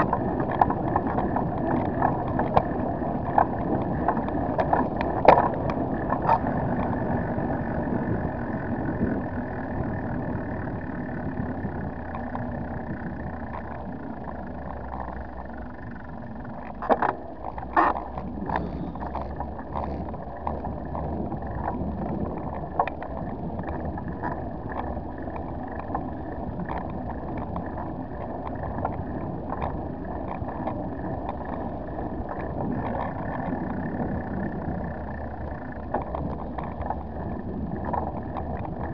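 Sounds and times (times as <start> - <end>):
small rattles and knocks: 0.0 - 38.9
tyres rolling on asphalt: 0.0 - 38.9
wind on microphone: 0.0 - 38.9.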